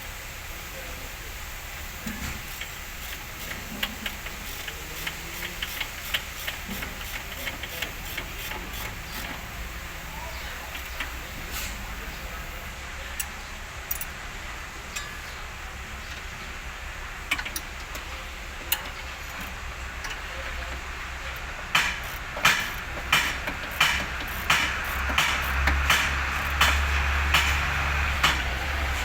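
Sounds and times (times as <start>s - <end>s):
vehicle engine rumbling: 2.4s - 29.0s.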